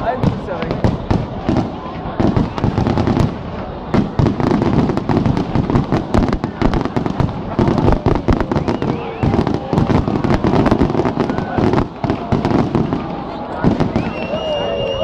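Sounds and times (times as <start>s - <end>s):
firework bangs and crackling: 0.0s - 15.0s.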